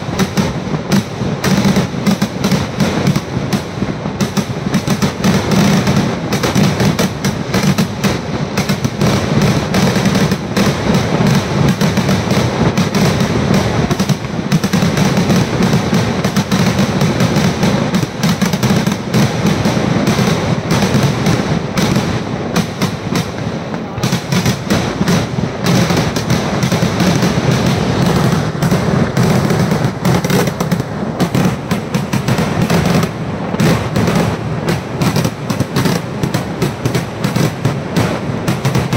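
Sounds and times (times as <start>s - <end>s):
fireworks barrage of bangs: 0.0s - 38.9s.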